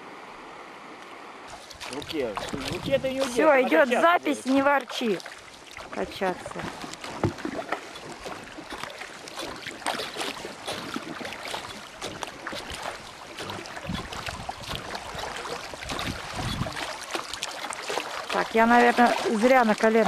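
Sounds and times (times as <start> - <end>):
river water splashing: 0.0 - 20.0.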